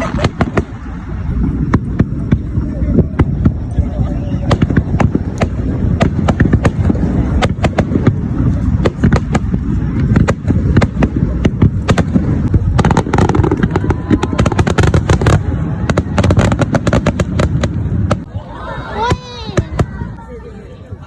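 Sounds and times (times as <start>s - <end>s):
low rumble of booms: 0.0s - 18.3s
fireworks bangs and crackles: 0.0s - 18.4s, 19.0s - 20.2s.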